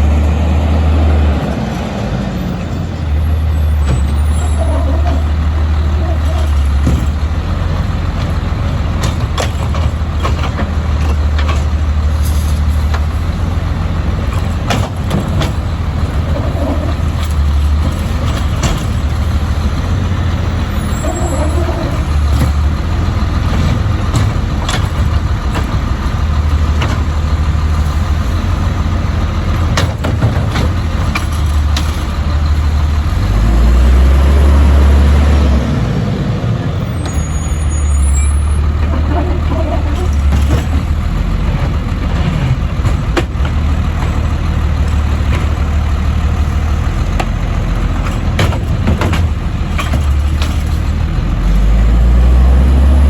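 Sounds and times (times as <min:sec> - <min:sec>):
garbage truck diesel engine rumble: 0:00.0 - 0:53.0
knocks and clanks: 0:03.7 - 0:33.6, 0:38.5 - 0:46.1, 0:46.8 - 0:52.0.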